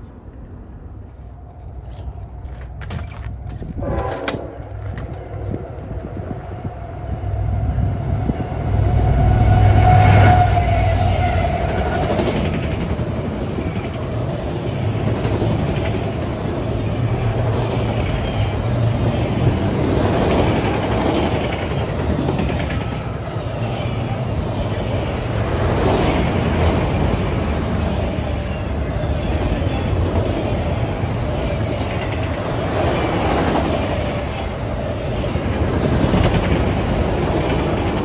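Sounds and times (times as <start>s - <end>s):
train cars rolling on rails: 0.0s - 38.0s.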